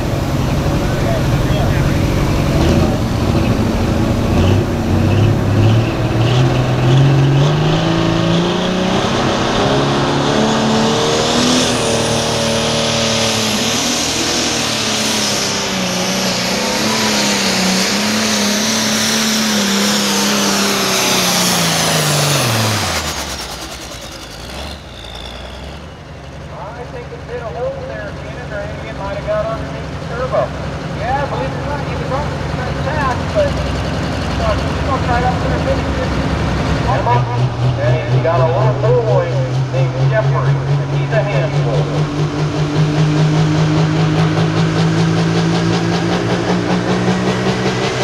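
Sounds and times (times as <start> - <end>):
diesel tractor engine revving: 0.0 - 48.0
high turbo whine: 0.0 - 48.0.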